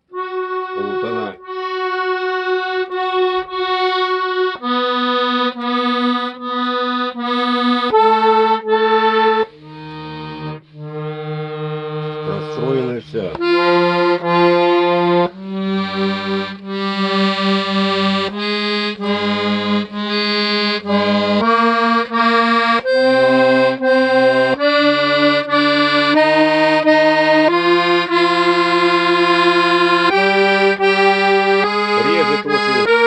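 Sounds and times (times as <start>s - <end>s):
out of tune accordion chords: 0.0s - 33.0s.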